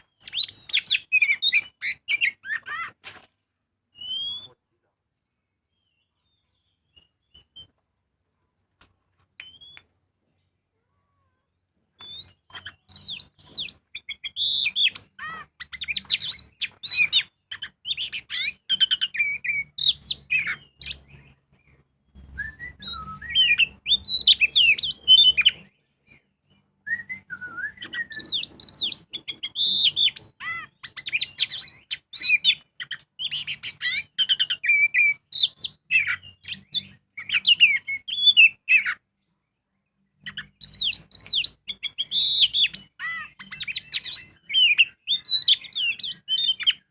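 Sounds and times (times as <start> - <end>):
magpie-robin singing: 0.0 - 3.0, 3.9 - 4.6, 5.7 - 7.7, 9.3 - 46.9.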